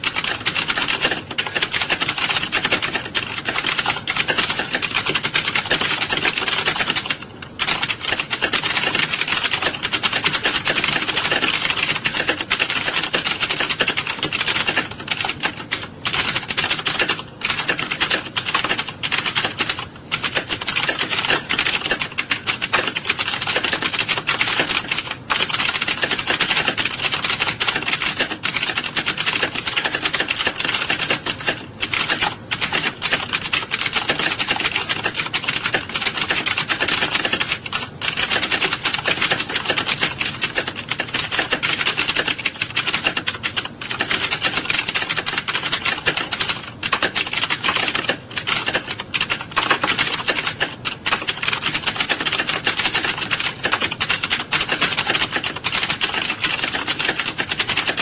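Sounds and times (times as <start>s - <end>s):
clatter of keystrokes: 0.0s - 58.0s.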